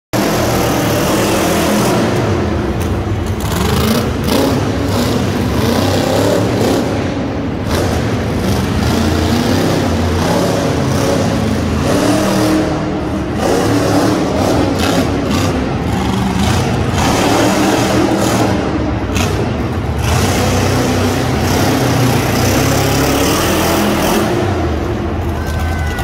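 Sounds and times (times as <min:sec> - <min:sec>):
monster truck engine revving: 0:00.2 - 0:26.0.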